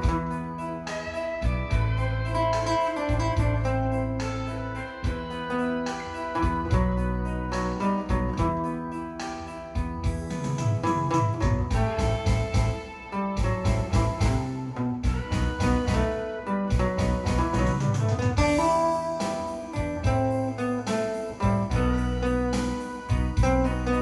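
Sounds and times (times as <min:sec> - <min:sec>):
pulsing bass beat: 0:00.0 - 0:09.2, 0:09.8 - 0:24.0
guitar instrumental music: 0:00.0 - 0:24.0.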